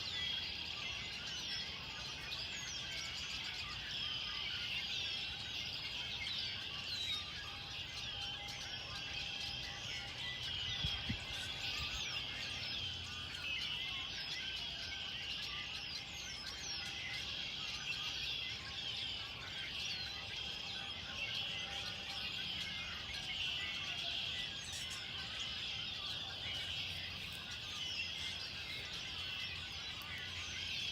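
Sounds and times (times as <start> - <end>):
chorus of birds chirping: 0.0 - 30.9.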